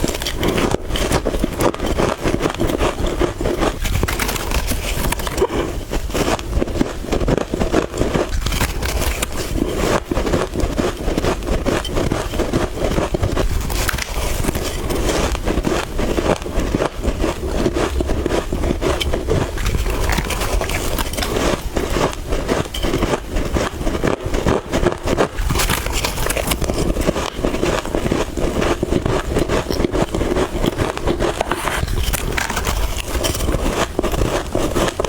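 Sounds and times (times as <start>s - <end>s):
frost crunching being chewed: 0.0s - 35.0s.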